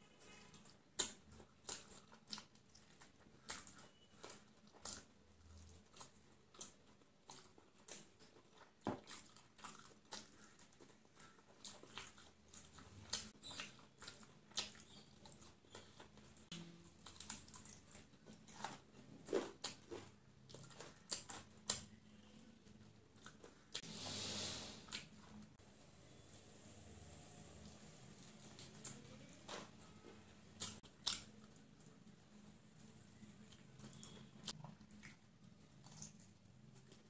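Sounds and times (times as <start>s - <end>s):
crispy chicken being chewed: 0.0s - 23.8s, 27.6s - 37.0s.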